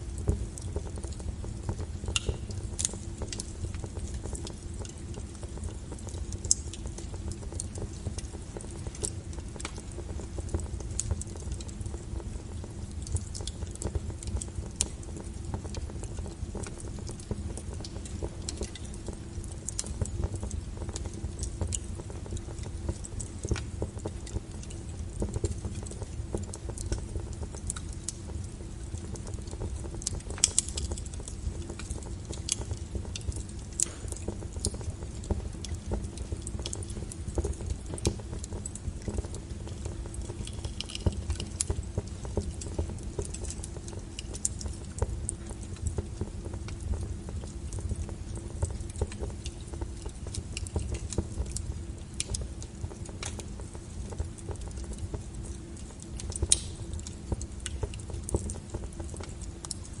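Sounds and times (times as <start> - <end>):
wood fire crackling and popping: 0.0 - 60.0.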